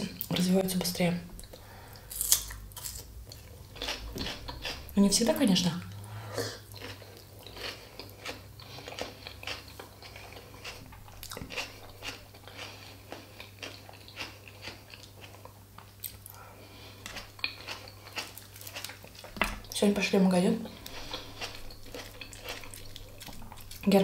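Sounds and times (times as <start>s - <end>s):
low steady hum: 0.0s - 24.0s
person chewing food: 1.4s - 5.0s, 5.9s - 19.8s, 20.6s - 24.0s.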